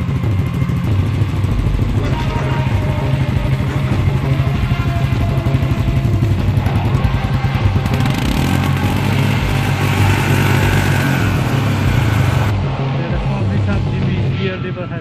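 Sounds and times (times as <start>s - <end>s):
motorcycle engine idling: 0.0s - 12.5s.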